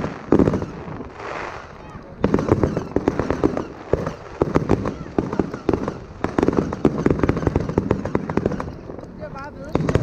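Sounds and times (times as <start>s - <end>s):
fireworks bangs and cracks: 0.0s - 10.0s.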